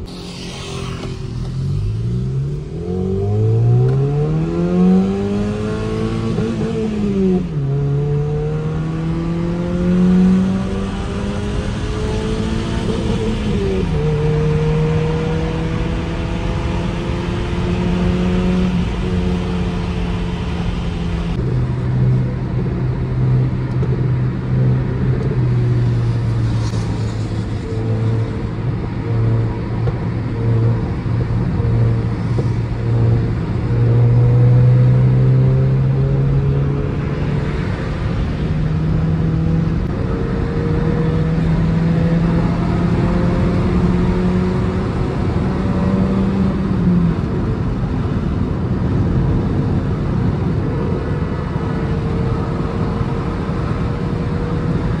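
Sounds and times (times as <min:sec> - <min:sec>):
car engine accelerating: 0:00.0 - 0:55.0
road noise: 0:00.0 - 0:55.0.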